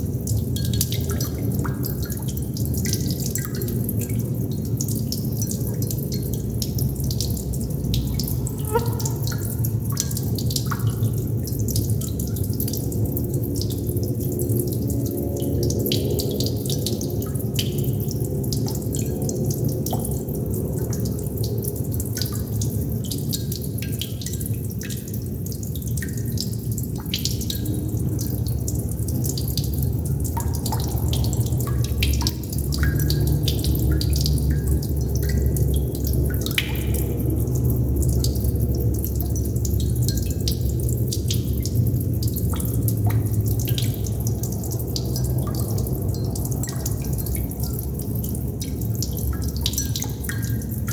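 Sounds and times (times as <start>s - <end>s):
water droplets dripping: 0.0s - 50.9s.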